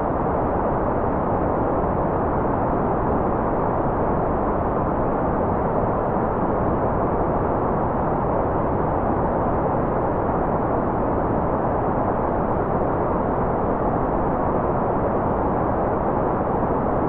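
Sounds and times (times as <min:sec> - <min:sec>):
muffled white noise hiss: 0:00.0 - 0:17.0.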